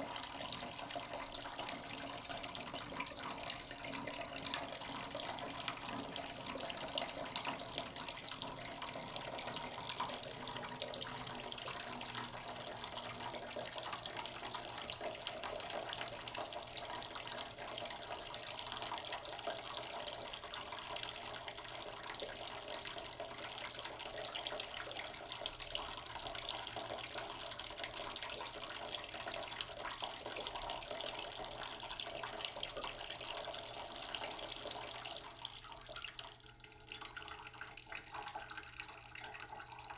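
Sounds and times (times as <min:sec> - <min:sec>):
tap water splashing into a pot: 0:00.0 - 0:39.9.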